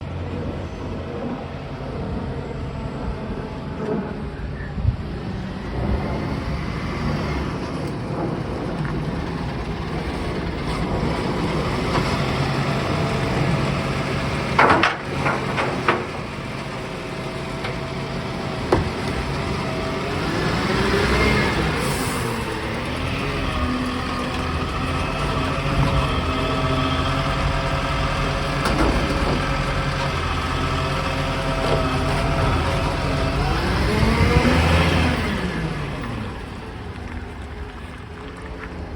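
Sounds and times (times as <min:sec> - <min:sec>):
garbage truck engine running: 0:00.0 - 0:38.9.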